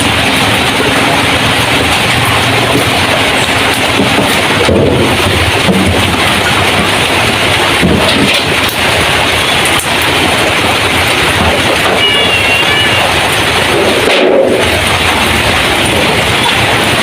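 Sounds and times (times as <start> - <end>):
heavy rain on metal roof: 0.0 - 17.0.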